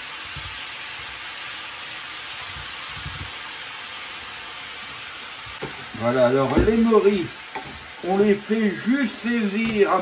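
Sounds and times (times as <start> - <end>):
mushrooms sizzling in a frying pan: 0.0 - 10.0.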